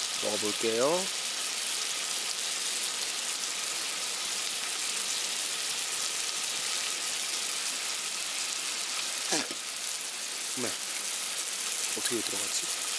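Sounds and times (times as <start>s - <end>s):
chicken sizzling on a charcoal grill: 0.0s - 12.9s.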